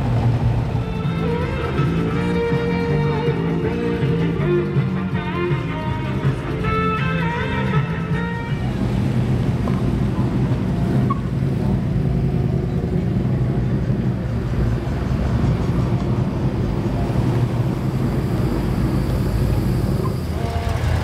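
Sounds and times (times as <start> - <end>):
cars passing with low engine rumble: 0.0 - 21.0.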